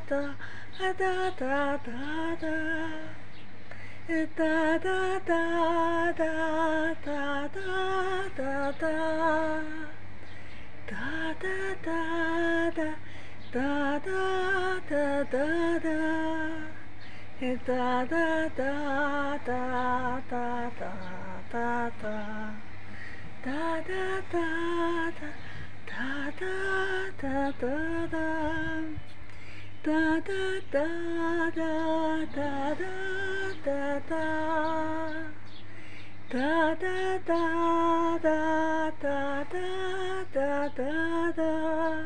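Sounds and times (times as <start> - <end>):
woman singing wordless melody: 0.0 - 42.0.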